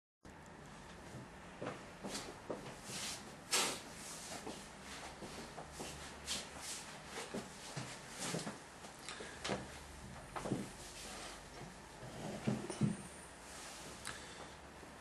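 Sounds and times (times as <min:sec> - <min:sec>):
faint steady hum: 0:00.3 - 0:15.0.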